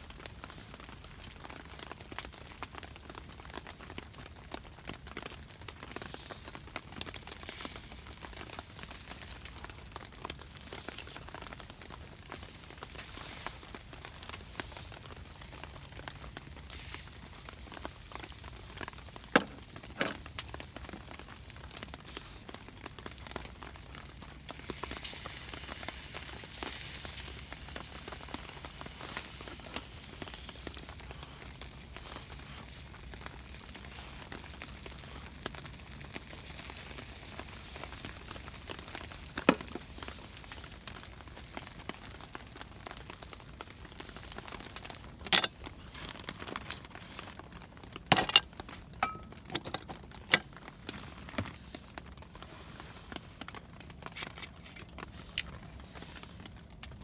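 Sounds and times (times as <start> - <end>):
food sizzling on a grill: 0.0 - 47.4.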